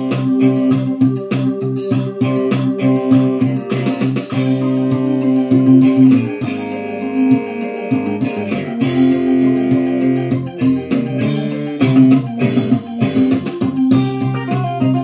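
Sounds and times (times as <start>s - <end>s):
plucked-string melody: 0.0s - 15.0s
steady bass line: 0.0s - 15.0s.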